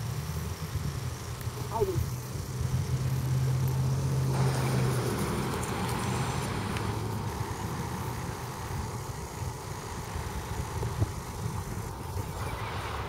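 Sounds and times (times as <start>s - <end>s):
low motor hum: 0.0s - 13.0s
outdoor background noise: 0.0s - 13.0s.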